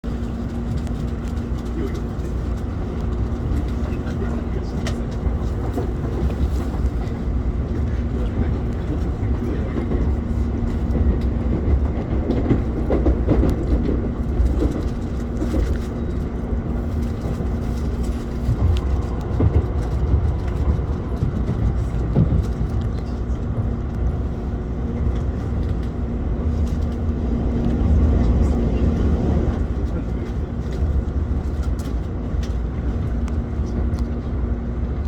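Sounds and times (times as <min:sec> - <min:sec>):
train running gear rumble: 0:00.0 - 0:35.0.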